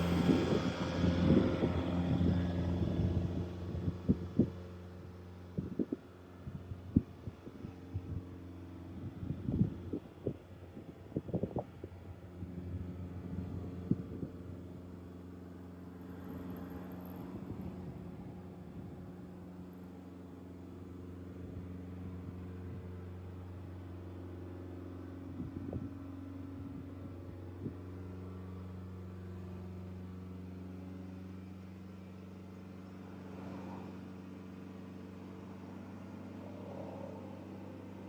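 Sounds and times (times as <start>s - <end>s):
car engine droning: 0.0s - 38.0s.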